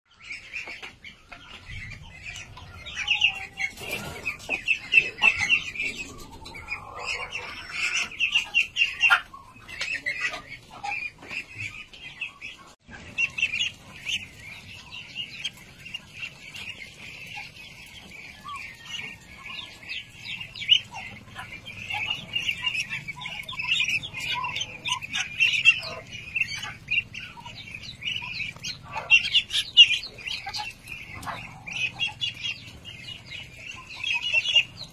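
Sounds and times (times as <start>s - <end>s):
ducklings peeping: 0.1s - 34.9s.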